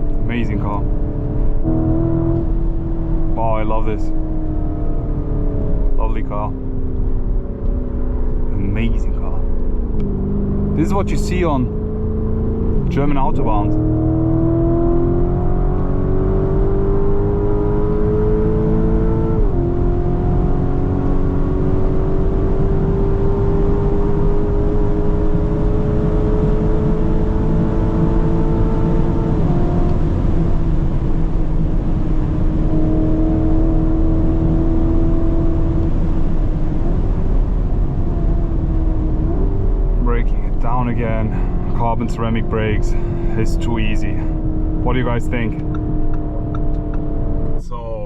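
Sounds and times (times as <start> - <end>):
car engine pulling hard: 0.0 - 48.0
road and wind noise: 0.0 - 48.0.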